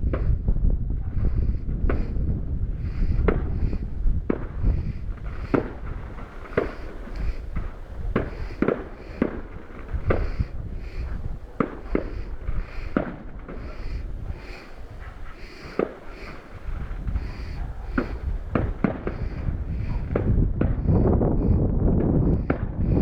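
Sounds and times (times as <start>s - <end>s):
fireworks bangs: 0.1s - 20.9s.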